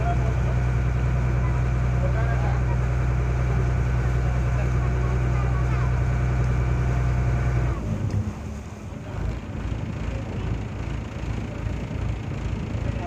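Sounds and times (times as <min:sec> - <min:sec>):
engine hum: 0:00.0 - 0:13.0
motorboat rumble: 0:00.0 - 0:13.0.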